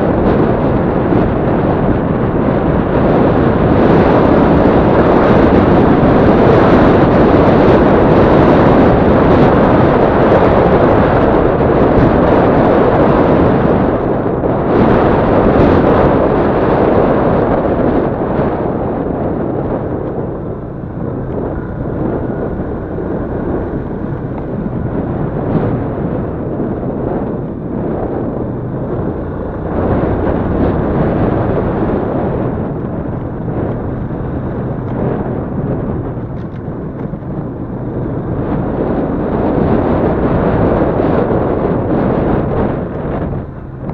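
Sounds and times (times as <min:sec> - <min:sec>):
motorcycle engine running: 0:00.0 - 0:43.9
wind rumble on microphone: 0:00.0 - 0:43.9.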